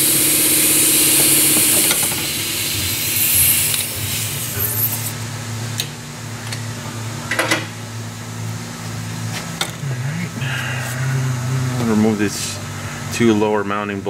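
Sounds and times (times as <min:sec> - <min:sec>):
shop machinery hum: 0:00.0 - 0:14.0.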